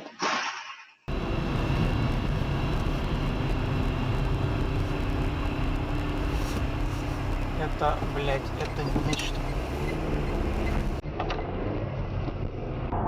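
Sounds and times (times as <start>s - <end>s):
vehicle engine and road noise: 1.1s - 13.0s.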